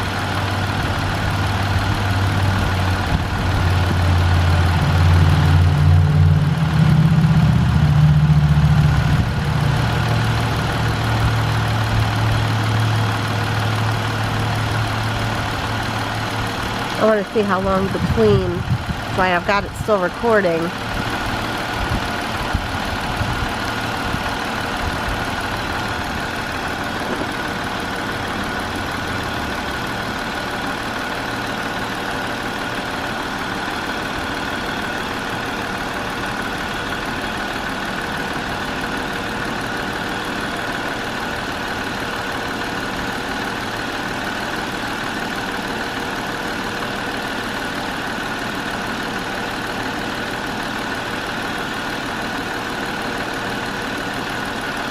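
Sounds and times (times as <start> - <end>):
car engine idling with whine: 0.0 - 54.9.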